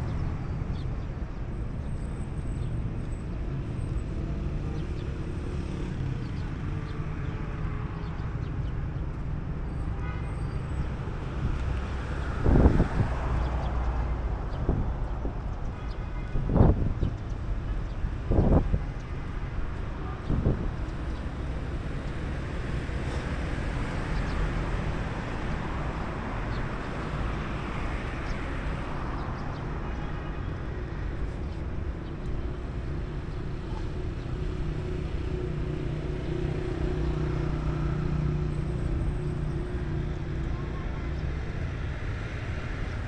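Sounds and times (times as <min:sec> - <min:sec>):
road traffic: 0:00.0 - 0:43.0.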